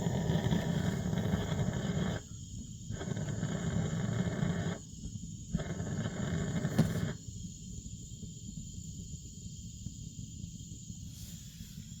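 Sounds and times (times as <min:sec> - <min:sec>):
gas burner flame rumbling: 0:00.0 - 0:12.0.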